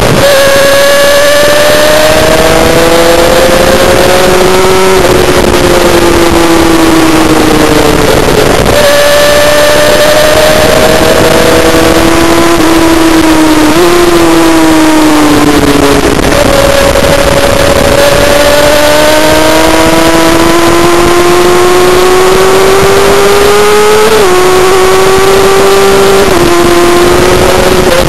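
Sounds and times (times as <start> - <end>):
motorcycle engine at speed: 0.0 - 28.0
wind rushing over microphone: 0.0 - 28.0.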